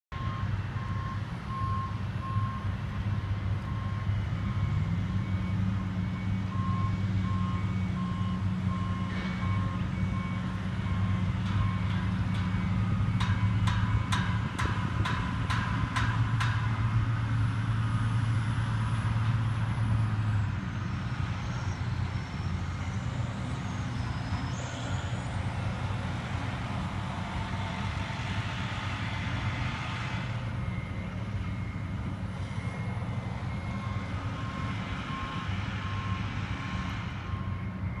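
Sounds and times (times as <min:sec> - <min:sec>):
heavy construction machinery hum: 0:00.1 - 0:38.0.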